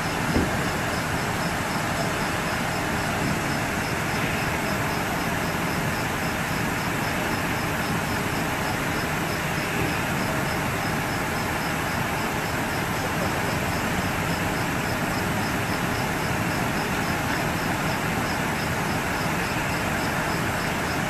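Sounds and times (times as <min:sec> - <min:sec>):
vehicle engines idling: 0:00.0 - 0:21.0.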